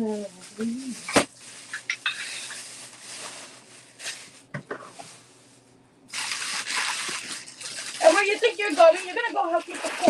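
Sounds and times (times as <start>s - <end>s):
plastic bags rustling: 0.0s - 10.0s.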